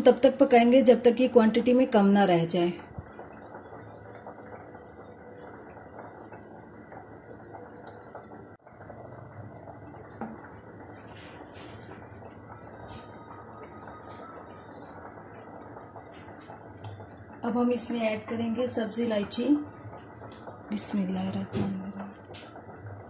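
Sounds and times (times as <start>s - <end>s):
milk hissing and bubbling: 0.2s - 23.0s.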